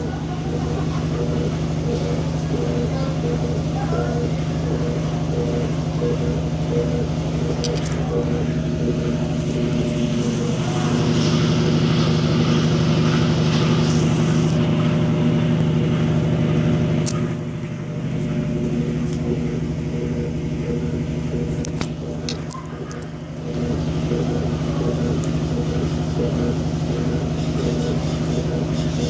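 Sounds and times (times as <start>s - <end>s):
washing machine motor humming: 0.0s - 29.0s.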